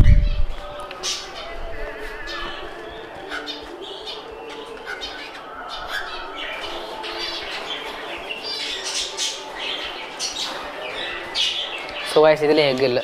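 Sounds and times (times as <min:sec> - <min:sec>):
parrots squawking and chirping: 0:01.0 - 0:12.3.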